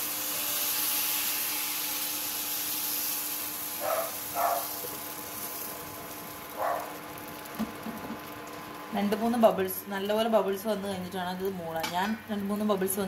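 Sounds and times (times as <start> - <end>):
batter sizzling in a pan: 0.0 - 13.0.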